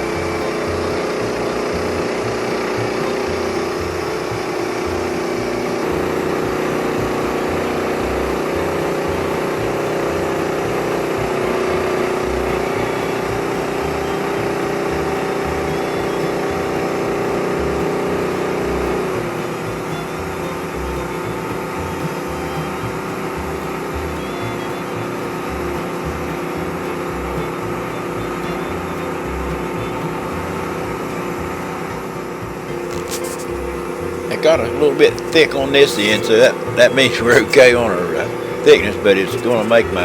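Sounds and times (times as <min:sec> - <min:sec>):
band sawmill cutting wood: 0:00.0 - 0:40.0.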